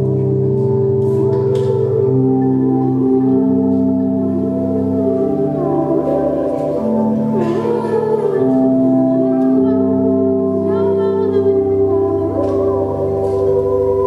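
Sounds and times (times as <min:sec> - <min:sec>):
synthesizer drones and chords: 0:00.0 - 0:14.0.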